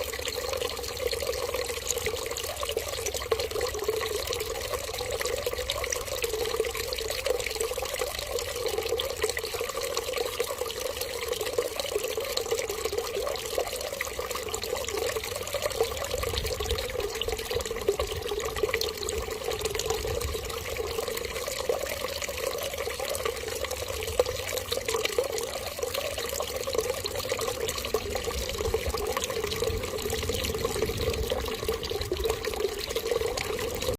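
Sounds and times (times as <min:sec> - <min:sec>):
water running: 0:00.0 - 0:33.9.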